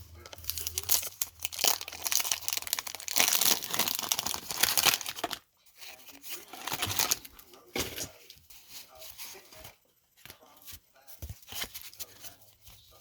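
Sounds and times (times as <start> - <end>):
wax paper wrapper crinkling: 0.0 - 12.9.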